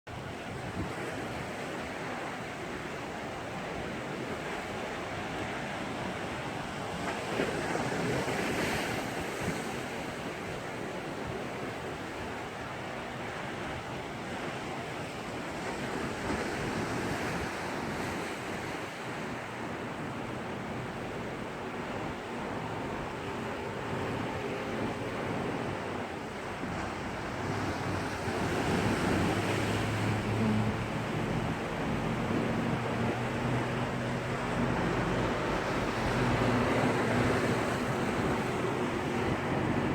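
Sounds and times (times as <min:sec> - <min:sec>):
sea waves surging on shore: 0:00.1 - 0:39.9.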